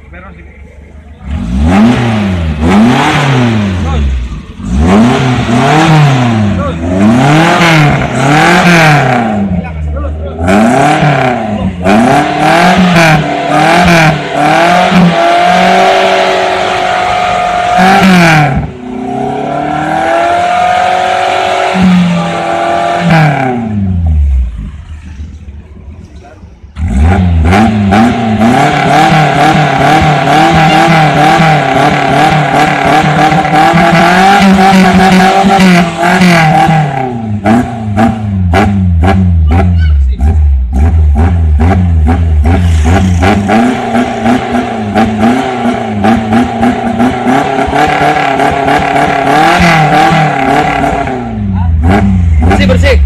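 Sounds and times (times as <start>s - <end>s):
motorcycle engine revving: 1.2s - 25.2s, 26.7s - 53.0s.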